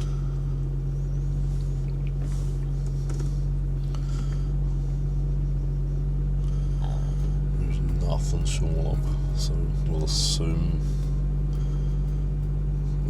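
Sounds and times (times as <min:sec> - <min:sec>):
car engine idling inside cabin: 0:00.0 - 0:13.0.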